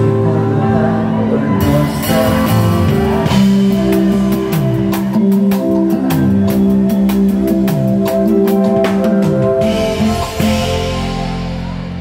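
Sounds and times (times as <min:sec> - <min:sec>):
bass line: 0:00.0 - 0:12.0
sustained chords: 0:00.0 - 0:12.0
drum kit beat: 0:01.6 - 0:12.0.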